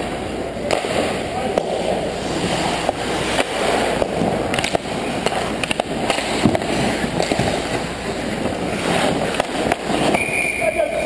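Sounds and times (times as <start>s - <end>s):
hockey sticks and puck clacking: 0.0s - 11.0s
skate blades scraping ice: 0.0s - 11.0s.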